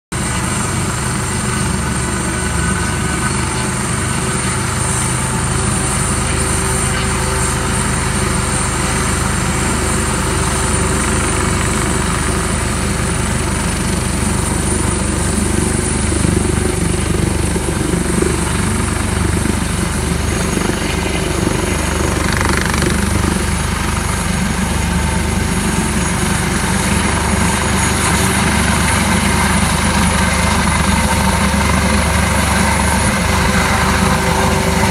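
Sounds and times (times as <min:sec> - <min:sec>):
helicopter rotor and turbine whine: 0:00.1 - 0:34.9.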